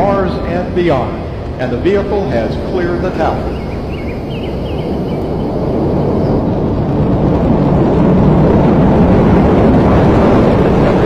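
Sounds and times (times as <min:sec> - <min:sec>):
rocket launch deep rumble: 0:00.0 - 0:11.0.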